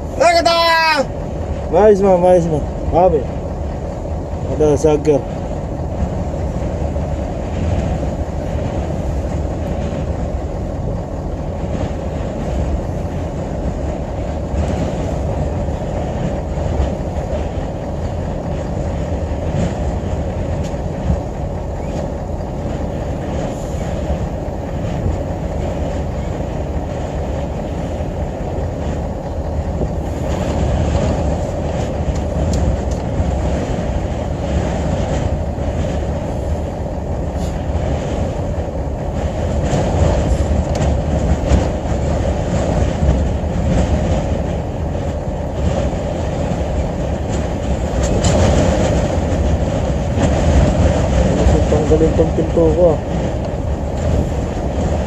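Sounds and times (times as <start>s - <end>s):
strong wind rumbling: 0.0s - 55.0s.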